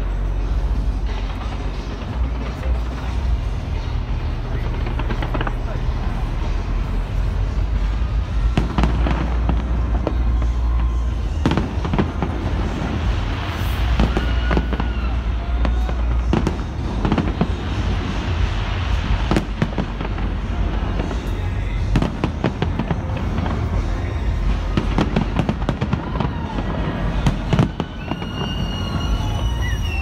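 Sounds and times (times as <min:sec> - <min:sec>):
low rumble: 0:00.0 - 0:28.1
fireworks bangs: 0:00.0 - 0:30.0.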